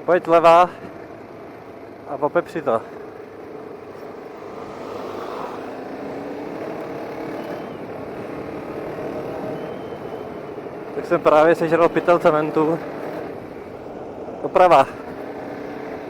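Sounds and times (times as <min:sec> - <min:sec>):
wind: 0:00.0 - 0:16.0
motorcycle engine under throttle: 0:00.5 - 0:16.0.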